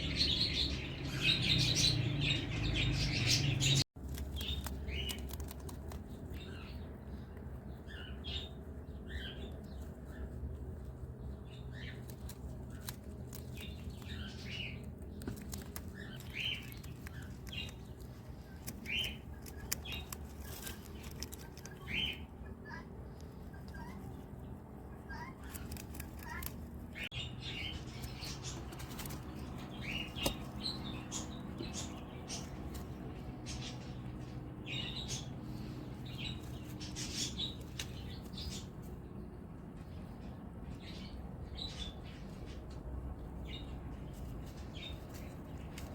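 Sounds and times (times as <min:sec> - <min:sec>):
birds chirping: 0:00.0 - 0:45.9
low steady hum: 0:03.5 - 0:45.9.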